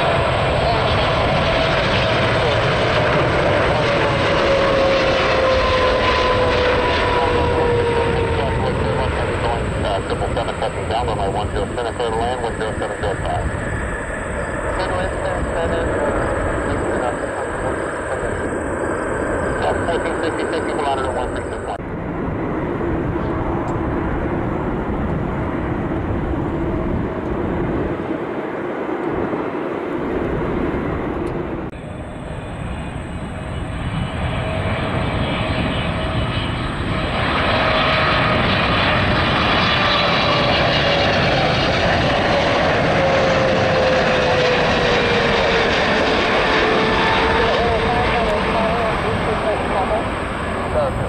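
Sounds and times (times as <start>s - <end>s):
jet engines idling: 0.0s - 22.2s, 26.0s - 51.0s
jet plane passing with whine: 0.0s - 51.0s.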